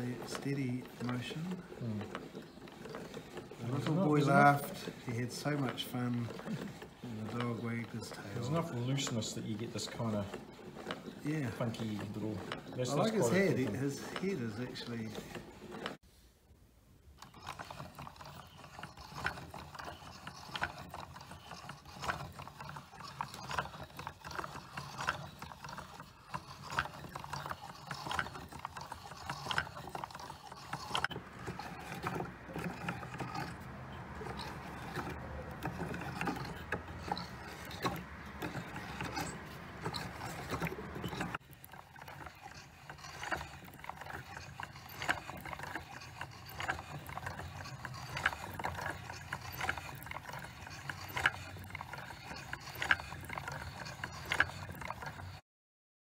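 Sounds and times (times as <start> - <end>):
gears clicking and rattling: 0.0 - 16.0, 17.1 - 55.4.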